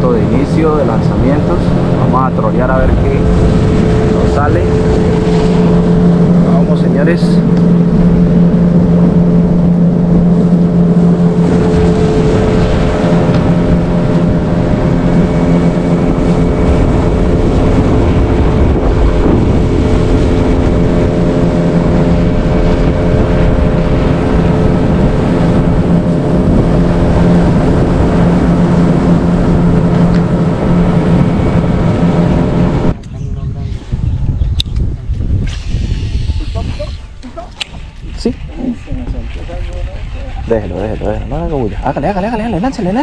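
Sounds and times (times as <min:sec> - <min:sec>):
outboard motor humming: 0:00.0 - 0:33.0, 0:34.1 - 0:43.0
wind noise on microphone: 0:00.0 - 0:43.0.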